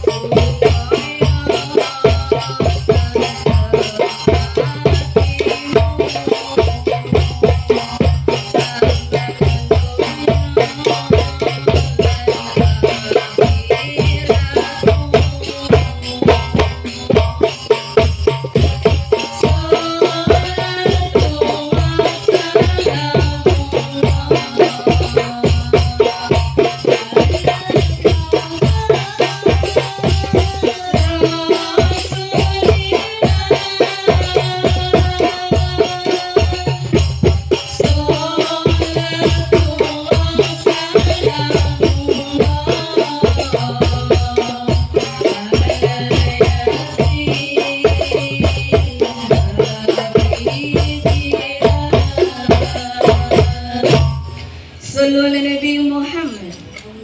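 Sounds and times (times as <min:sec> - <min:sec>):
steady drum beat: 0:00.0 - 0:54.5
shaken percussion: 0:00.0 - 0:57.0
woman singing into microphone: 0:00.0 - 0:57.0.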